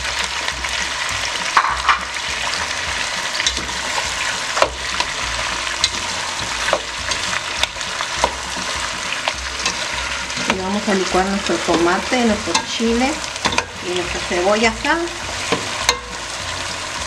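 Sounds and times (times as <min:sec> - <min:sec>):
meat sizzling in a pot: 0:00.0 - 0:17.0
utensil scraping pot: 0:00.0 - 0:17.0.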